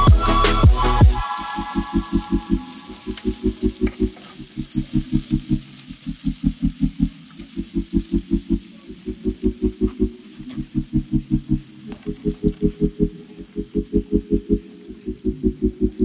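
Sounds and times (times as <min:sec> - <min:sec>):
faint sizzle: 0:00.0 - 0:16.0.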